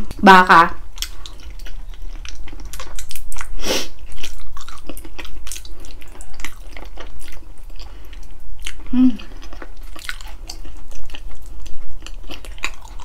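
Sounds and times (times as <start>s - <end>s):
person chewing wetly: 0.9s - 13.0s.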